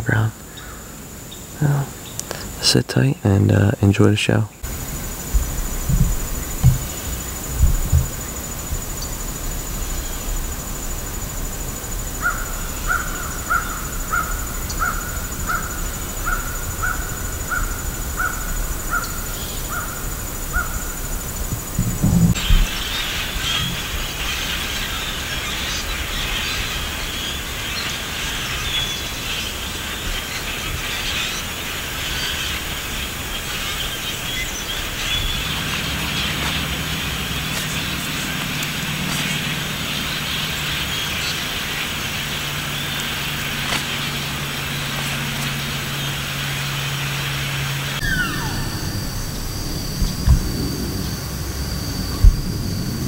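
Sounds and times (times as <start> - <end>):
distant engine drone: 0.0 - 53.0
marsh background hiss: 0.0 - 53.0.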